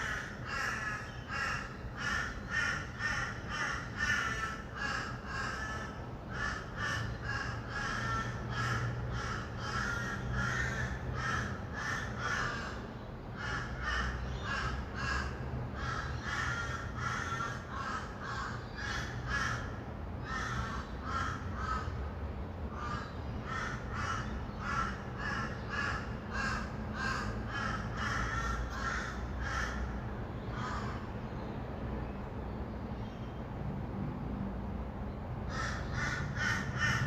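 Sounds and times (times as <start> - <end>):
distant traffic hum: 0.0 - 37.0.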